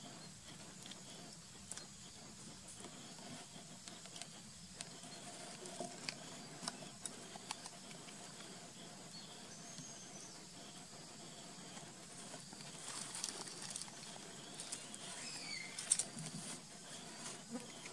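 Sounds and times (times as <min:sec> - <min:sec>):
faint high insect hum: 0:00.0 - 0:17.9.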